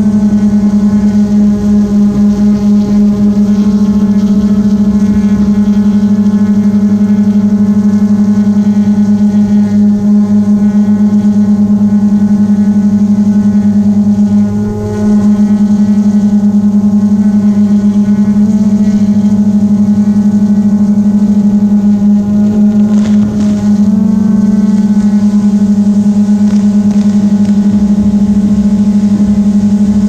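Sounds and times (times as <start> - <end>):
drone propellers humming: 0.0 - 30.0.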